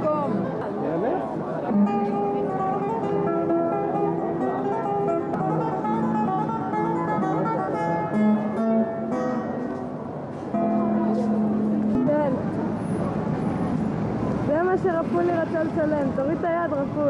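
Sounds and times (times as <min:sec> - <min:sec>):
classical guitar fingerpicked: 0:00.0 - 0:17.0.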